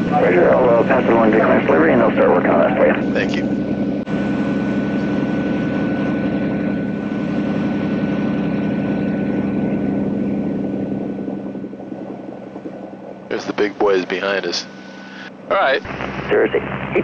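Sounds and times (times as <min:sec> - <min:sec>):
faint high whine: 0:00.0 - 0:17.0
propeller aircraft engine droning: 0:00.0 - 0:17.0.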